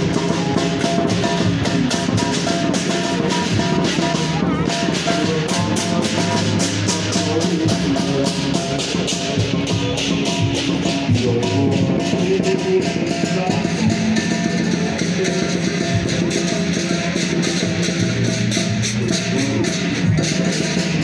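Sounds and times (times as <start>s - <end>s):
band music: 0.0s - 21.0s
drum kit beat: 0.0s - 21.0s.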